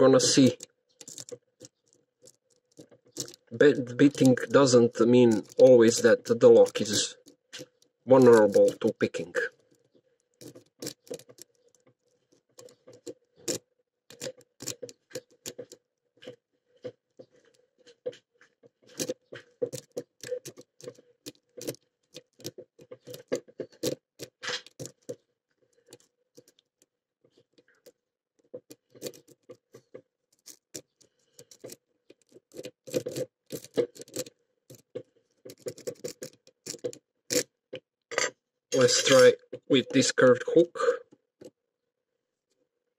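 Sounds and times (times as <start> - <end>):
rake scraping padlock pins: 0.0 - 17.7, 18.8 - 37.5, 38.8 - 40.2.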